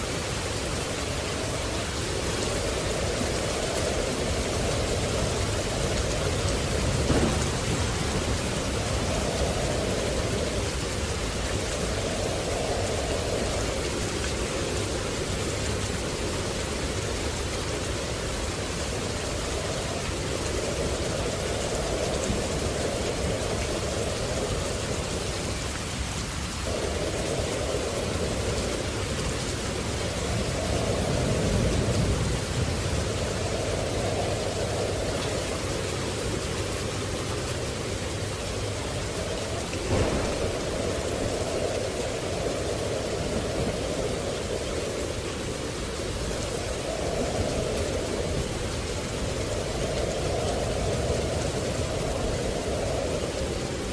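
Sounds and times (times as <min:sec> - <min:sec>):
steady rain: 0:00.0 - 0:53.9
low rolls of thunder: 0:00.2 - 0:53.9.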